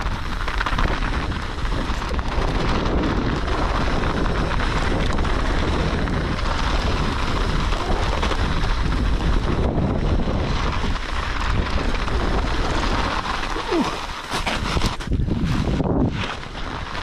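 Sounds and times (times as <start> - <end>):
bike rattling: 0.0 - 17.0
bike tyres crunching on snow: 0.0 - 17.0
wind buffeting microphone: 0.0 - 17.0.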